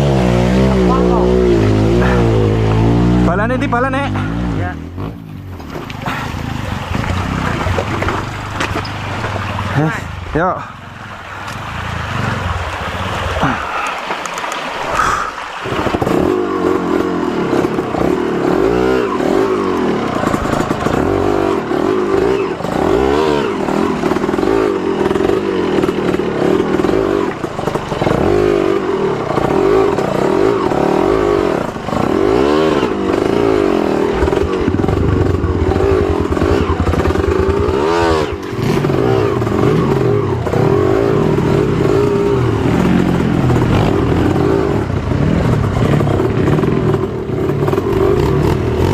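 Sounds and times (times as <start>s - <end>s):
motorcycle engine revving: 0.0s - 10.8s, 15.6s - 48.9s.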